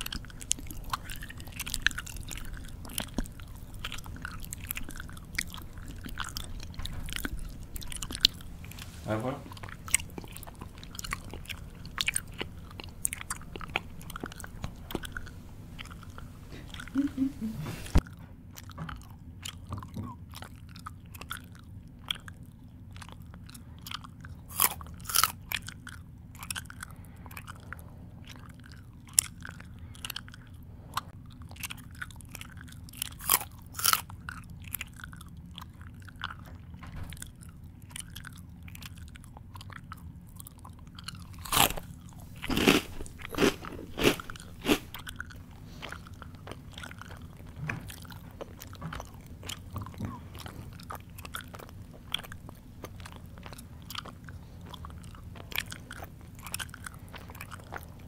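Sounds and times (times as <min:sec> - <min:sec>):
low steady hum: 0:00.0 - 0:58.0
person chewing food noisily: 0:00.0 - 0:58.0.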